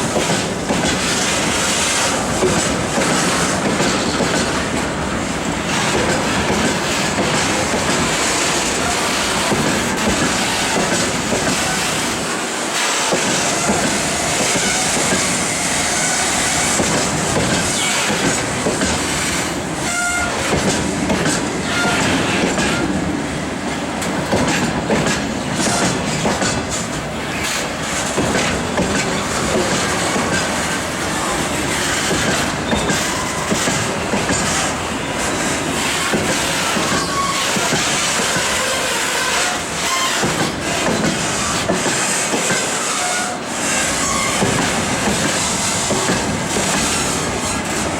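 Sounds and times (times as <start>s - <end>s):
freight train wheels clattering: 0.0s - 47.9s.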